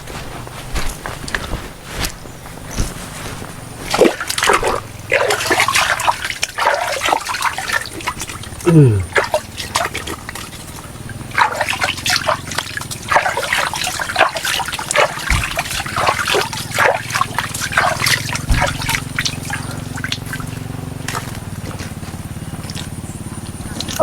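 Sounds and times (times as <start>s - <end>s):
low steady hum: 0.0s - 24.0s
water trickling and splashing: 0.0s - 24.0s.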